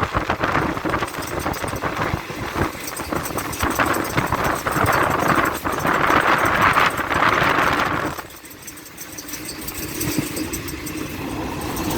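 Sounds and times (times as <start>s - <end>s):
train rushing and rumbling: 0.0s - 11.9s.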